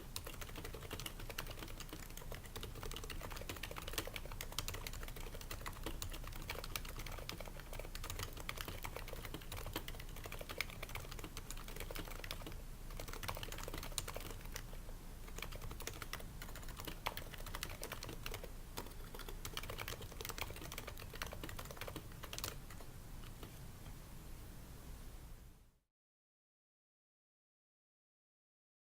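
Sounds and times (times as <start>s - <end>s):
fast typing on a keyboard: 0.0s - 23.5s.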